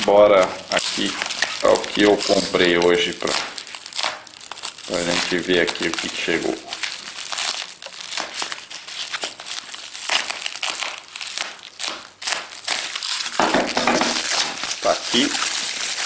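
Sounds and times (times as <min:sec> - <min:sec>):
bubble wrap crackling: 0:00.0 - 0:16.0.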